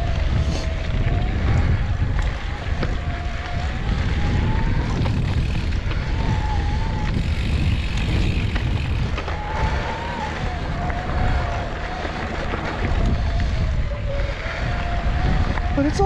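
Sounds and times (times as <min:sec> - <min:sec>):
electric motor whine: 0:00.0 - 0:16.0
tyres rumbling on dirt: 0:00.0 - 0:16.0
wind buffeting microphone: 0:00.0 - 0:16.0.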